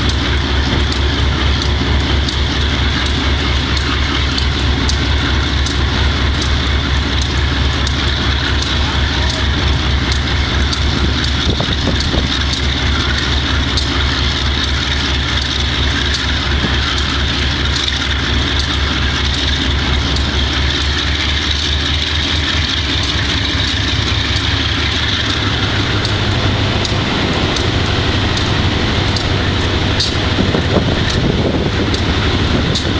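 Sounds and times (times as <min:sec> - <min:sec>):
diesel locomotive engine running: 0:00.0 - 0:32.9.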